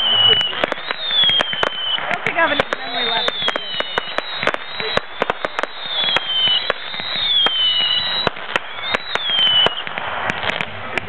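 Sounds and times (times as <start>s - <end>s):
firework bangs and crackles: 0.0s - 11.0s
firework whistles gliding down: 0.0s - 11.0s.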